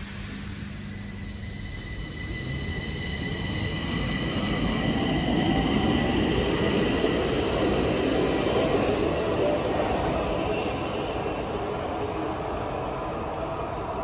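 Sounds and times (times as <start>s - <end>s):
metro train running on track: 0.0s - 14.0s.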